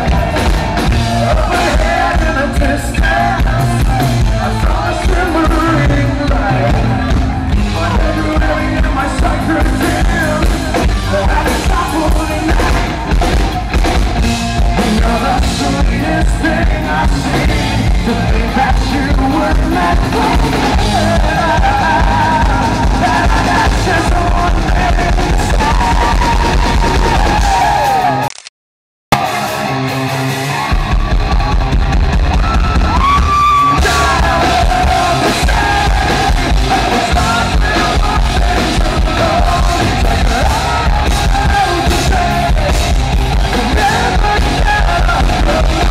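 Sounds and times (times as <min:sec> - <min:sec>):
live rock band playing: 0:00.0 - 0:28.2, 0:29.1 - 0:45.9.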